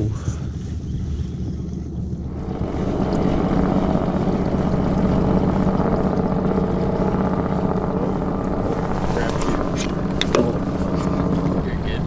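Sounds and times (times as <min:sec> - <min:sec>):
outboard motor running: 0:00.6 - 0:12.0.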